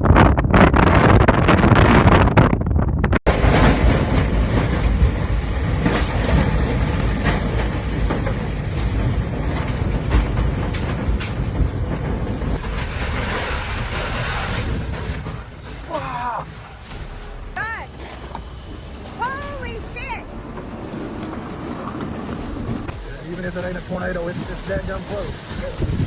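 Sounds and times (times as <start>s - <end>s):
storm wind roaring: 0.0s - 26.0s.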